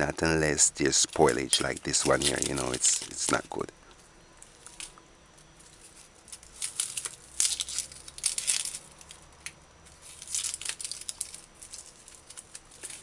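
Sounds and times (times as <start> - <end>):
onion skin crackling and tearing: 0.6 - 3.7, 4.4 - 5.0, 5.6 - 13.0.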